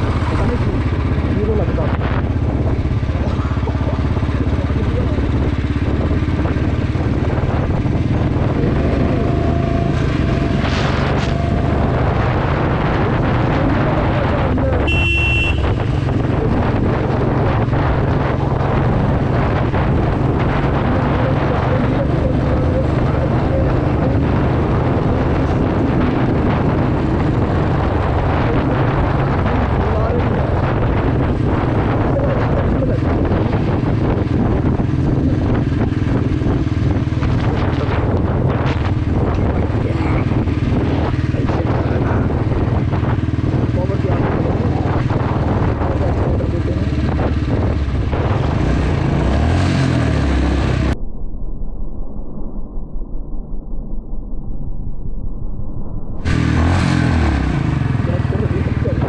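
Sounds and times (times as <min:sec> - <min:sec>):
motorcycle engine running: 0:00.0 - 0:51.0, 0:56.2 - 0:59.0
wind rushing over microphone: 0:00.0 - 0:59.0.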